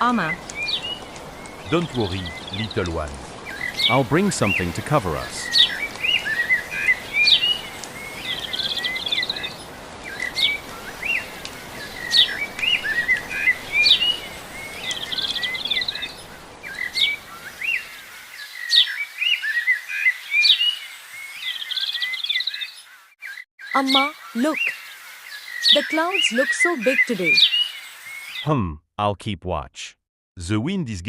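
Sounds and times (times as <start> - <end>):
songbirds chirping: 0.0 - 28.5.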